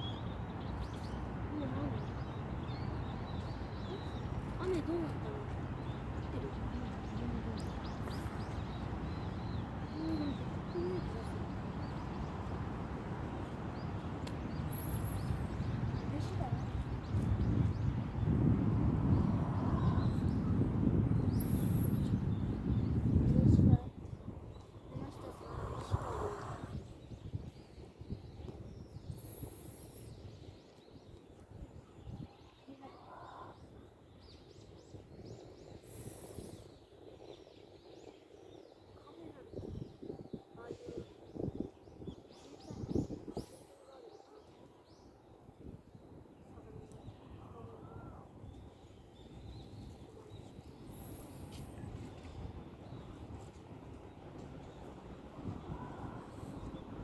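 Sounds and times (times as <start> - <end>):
low rumble of park background: 0.0 - 57.0
small birds chirping: 0.0 - 57.0.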